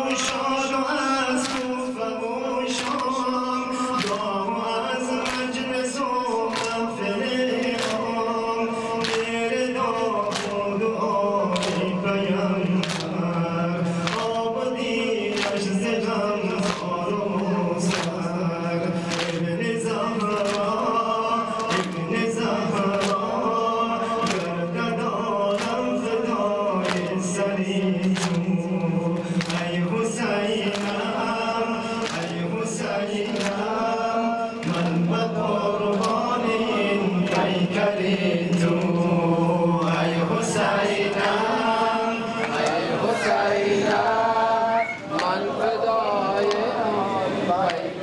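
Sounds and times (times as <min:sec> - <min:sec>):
man singing a lament into microphone: 0:00.0 - 0:48.0.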